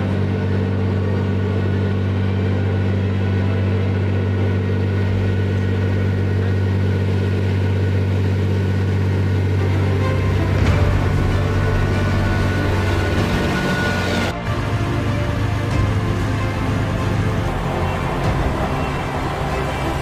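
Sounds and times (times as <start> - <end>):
heavy diesel engine droning: 0.0 - 20.0.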